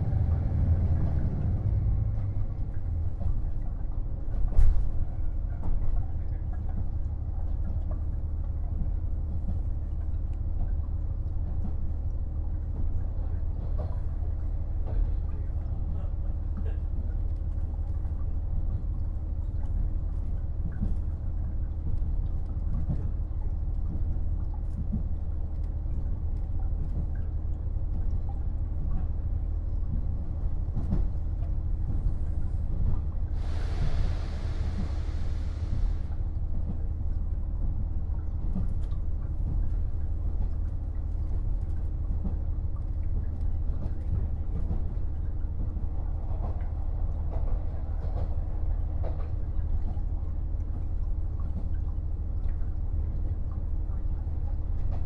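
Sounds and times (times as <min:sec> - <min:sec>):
diesel engine rumble: 0:00.0 - 0:55.0.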